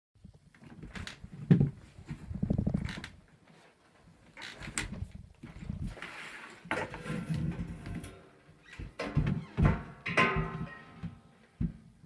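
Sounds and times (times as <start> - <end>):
objects knocking and thumping: 0.6 - 3.1, 4.6 - 12.0.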